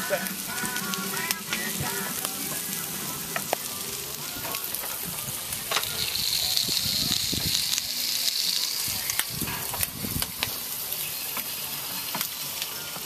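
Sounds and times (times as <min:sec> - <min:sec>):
bacon sizzling on a griddle: 0:00.0 - 0:13.0.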